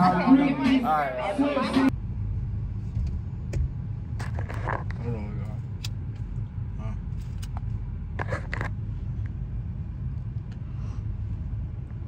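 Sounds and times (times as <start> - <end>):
car cabin rumble: 2.0 - 12.0.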